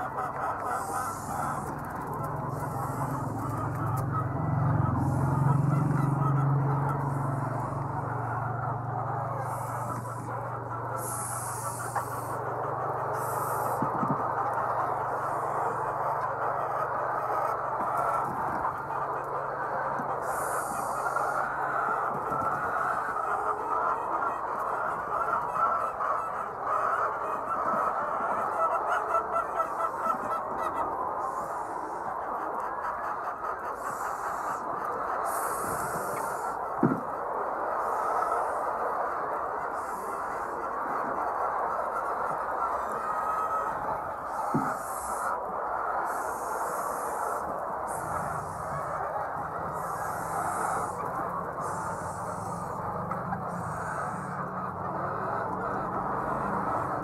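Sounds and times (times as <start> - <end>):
hens clucking and squawking: 0.0 - 57.0.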